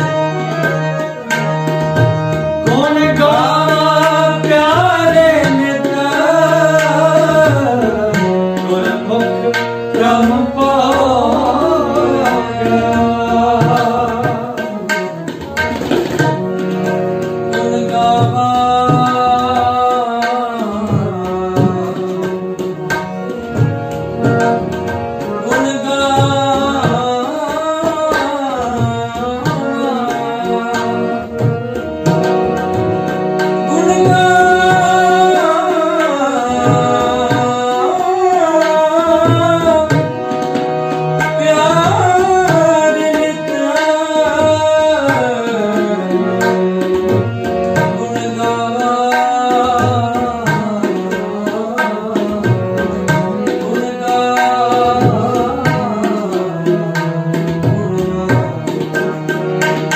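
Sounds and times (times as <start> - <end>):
harmonium tones: 0.0 - 59.9
tabla rhythm: 0.0 - 59.9.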